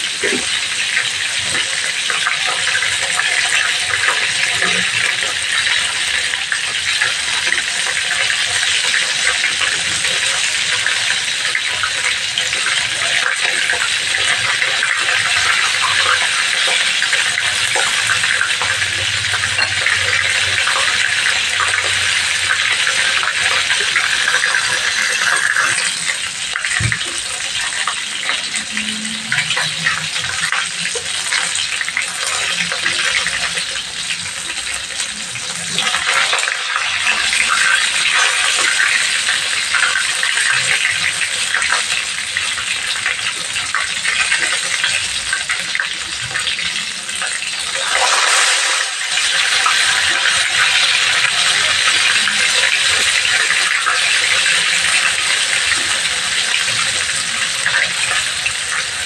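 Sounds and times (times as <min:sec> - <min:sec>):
chicken sizzling in hot oil: 0:00.0 - 0:59.0.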